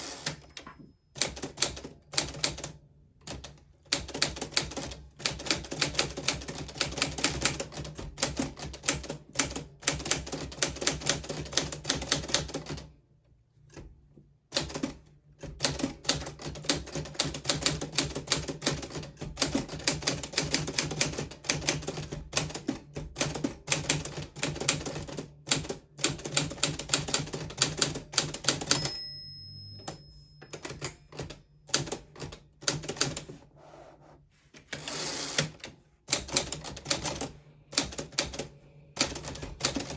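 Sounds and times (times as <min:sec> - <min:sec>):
manual typewriter keystrokes: 0:01.2 - 0:12.9, 0:14.5 - 0:29.0, 0:29.8 - 0:33.3, 0:34.7 - 0:39.9.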